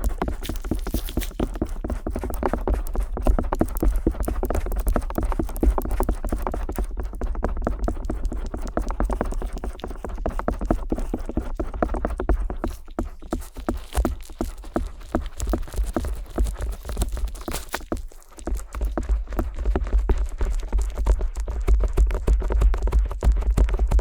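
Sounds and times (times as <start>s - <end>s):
ear pick tapping and scraping microphone: 0.0s - 24.0s.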